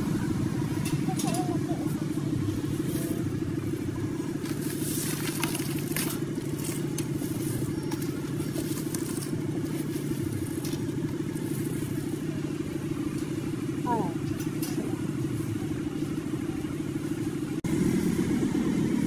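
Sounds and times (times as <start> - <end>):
low pulsing mechanical drone: 0.0 - 19.0.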